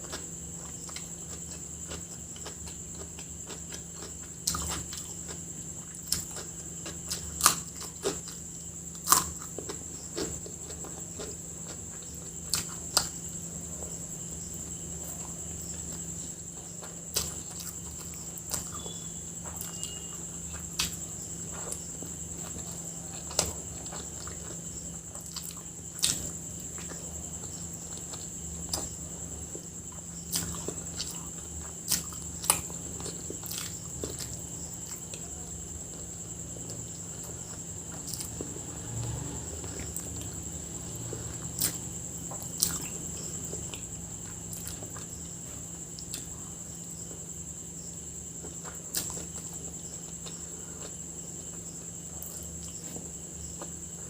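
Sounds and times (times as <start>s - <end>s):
person chewing food: 0.0s - 38.6s, 39.6s - 46.4s, 48.3s - 53.8s.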